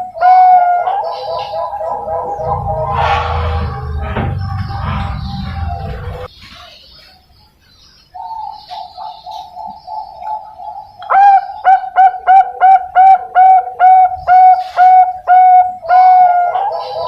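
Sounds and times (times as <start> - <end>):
dove cooing: 0.0 - 6.3, 8.2 - 17.0.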